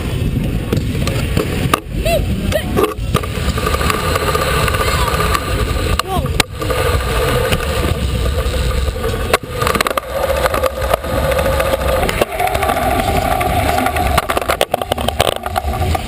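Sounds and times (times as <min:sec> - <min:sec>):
scooter wheels rolling hum: 0:00.0 - 0:16.0.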